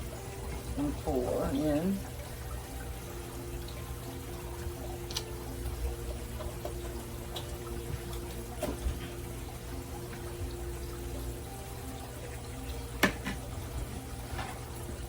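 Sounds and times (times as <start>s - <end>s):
liquid pouring: 0.0s - 15.0s.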